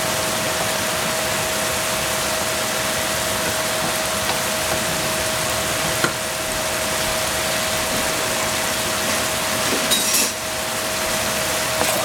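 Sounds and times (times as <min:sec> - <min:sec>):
sauce simmering in frying pan: 0:00.0 - 0:12.0.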